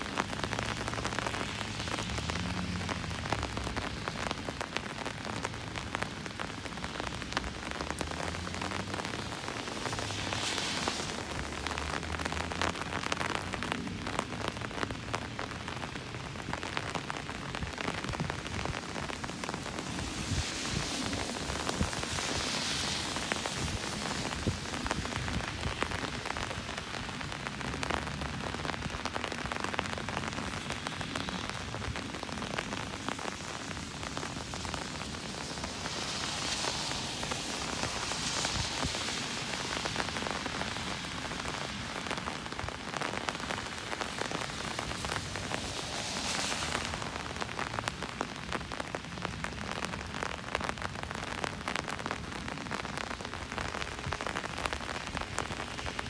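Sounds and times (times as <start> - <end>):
car tyres hissing on wet road: 0.0 - 56.0
rain pattering on an umbrella: 0.0 - 56.0.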